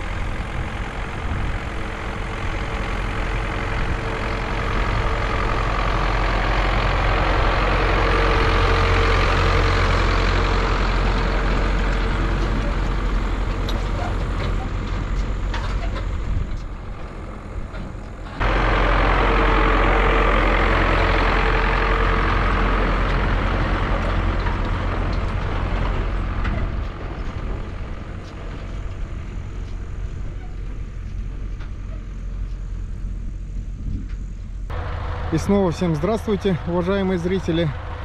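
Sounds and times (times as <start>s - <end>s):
tractor diesel engine running: 0.0s - 38.0s
trailers clattering: 0.0s - 38.0s.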